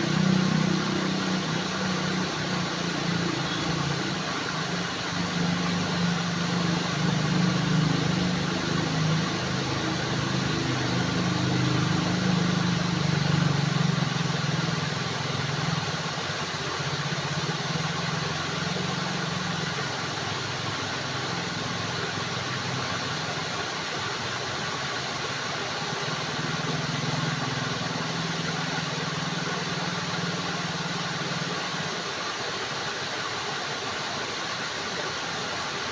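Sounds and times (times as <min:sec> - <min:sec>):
flowing water rushing: 0:00.0 - 0:35.9
low engine-like hum: 0:00.0 - 0:35.9.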